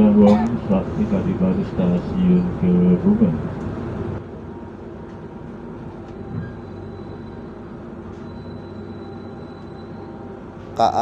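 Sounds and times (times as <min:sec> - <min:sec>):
train coach hum: 0:00.0 - 0:11.0.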